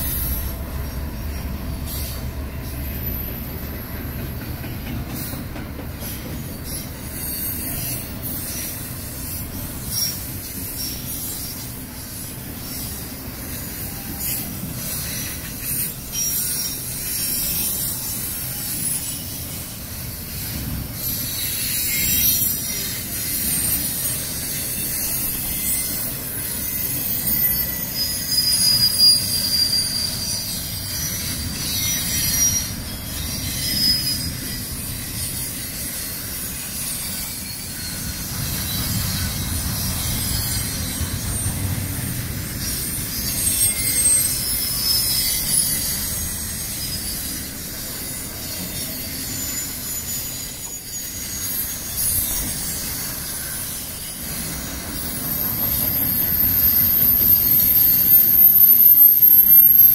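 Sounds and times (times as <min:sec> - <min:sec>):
high-pitched wheel squeal: 0:00.0 - 0:59.9
train wheels rumbling on rail: 0:00.0 - 0:59.9.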